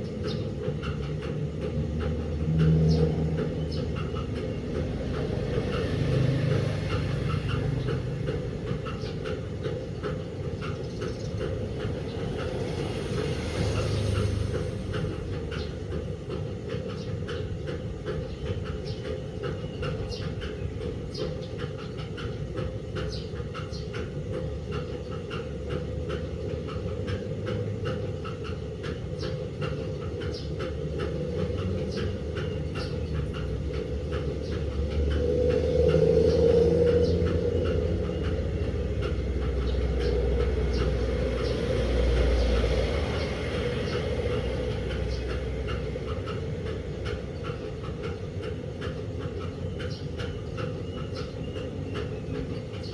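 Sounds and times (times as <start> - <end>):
washing machine rumbling: 0.0 - 52.9.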